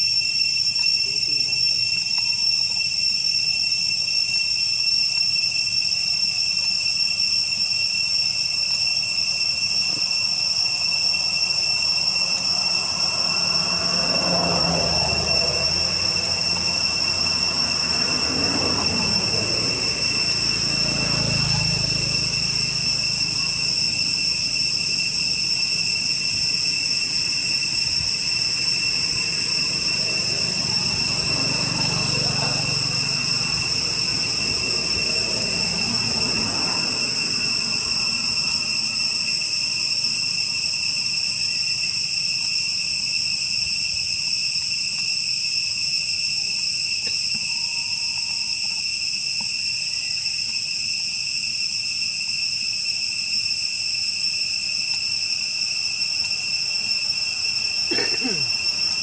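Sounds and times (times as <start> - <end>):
high ringing tones: 0.0 - 59.0
insect chorus: 0.0 - 59.0.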